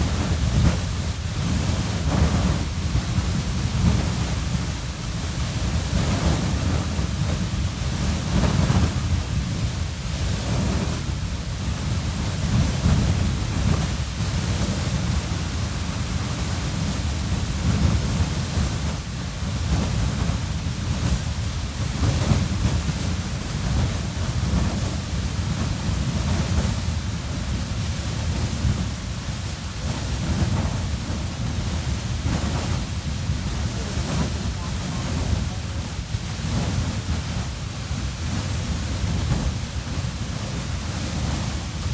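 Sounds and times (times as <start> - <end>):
geyser rushing water and steam: 0.0 - 41.9.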